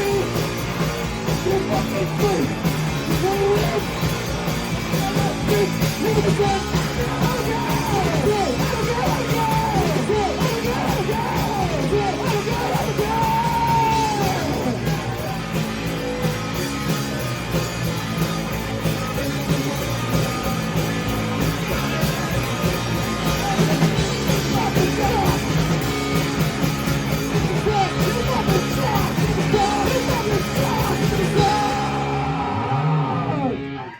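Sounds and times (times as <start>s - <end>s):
singer yelling vocals: 0.0s - 15.9s, 21.7s - 33.9s
rock band playing live: 0.0s - 33.9s.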